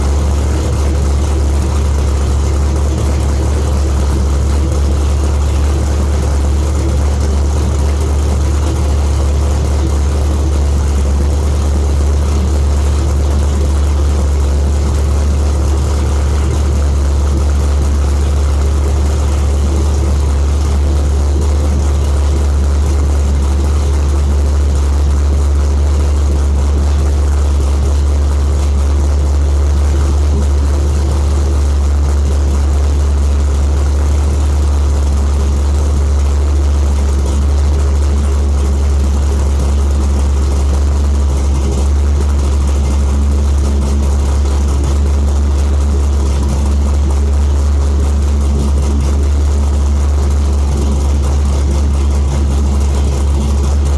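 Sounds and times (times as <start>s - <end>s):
car engine loping idle: 0.0s - 53.9s.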